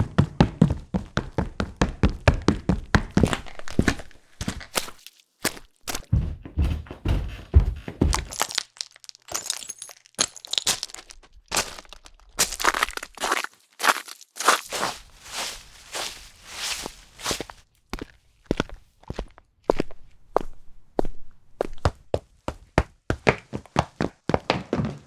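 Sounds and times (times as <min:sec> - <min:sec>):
heavy thudding footsteps: 0:00.1 - 0:08.6, 0:10.3 - 0:25.0
crunchy footsteps: 0:02.8 - 0:25.0.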